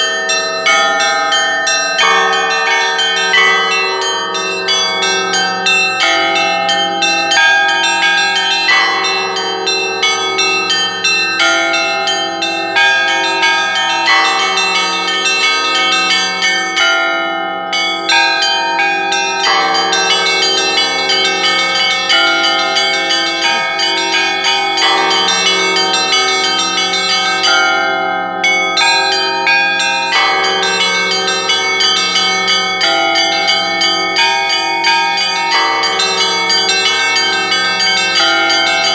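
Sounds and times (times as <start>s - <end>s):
church bells ringing: 0.0s - 38.9s
deep heavy bell: 0.0s - 38.9s.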